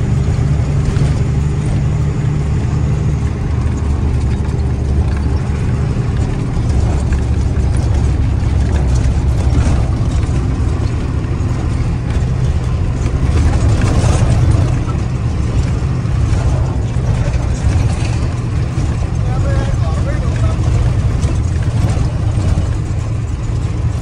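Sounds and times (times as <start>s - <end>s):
road noise: 0.0s - 24.0s
truck diesel engine droning: 0.0s - 24.0s.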